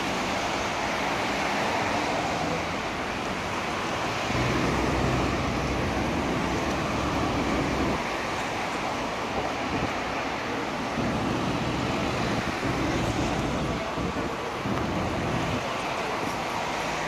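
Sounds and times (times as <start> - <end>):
passing street traffic: 0.0 - 17.0
trolleybus electric hum: 0.0 - 17.0.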